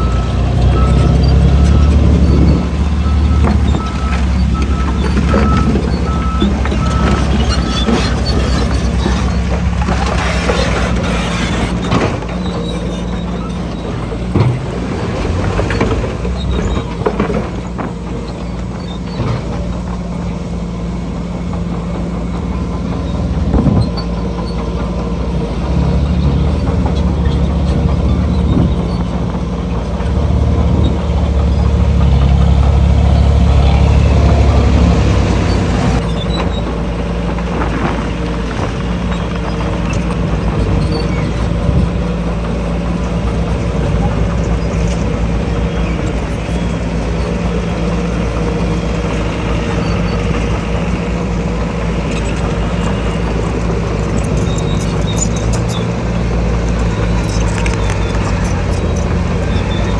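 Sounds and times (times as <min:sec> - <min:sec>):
heavy diesel engine running: 0:00.0 - 0:59.9
knocks and clanks: 0:00.0 - 0:59.9.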